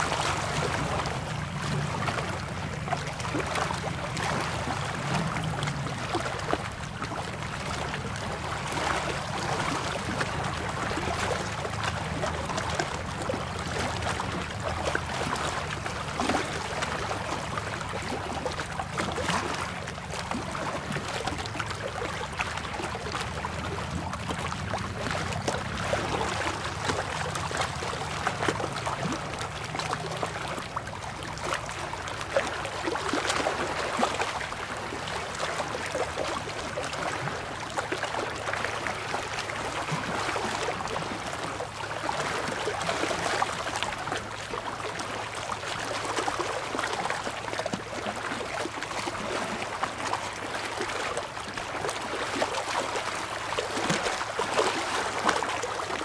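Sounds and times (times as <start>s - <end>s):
small waves lapping on rocks: 0.0s - 56.0s.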